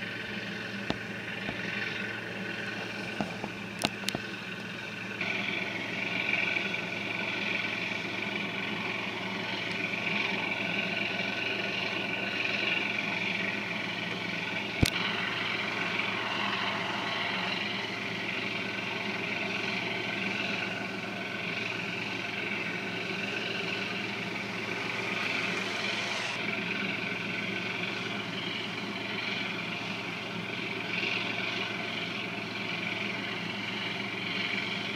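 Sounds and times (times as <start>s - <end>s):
boat engine drone: 0.0s - 34.9s.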